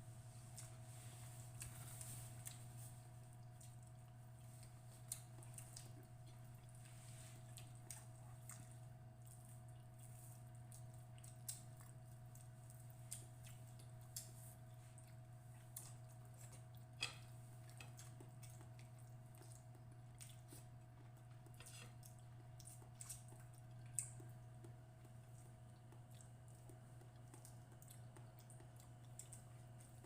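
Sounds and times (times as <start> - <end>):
steady low hum: 0.0 - 30.0
wet chewing: 0.5 - 30.0.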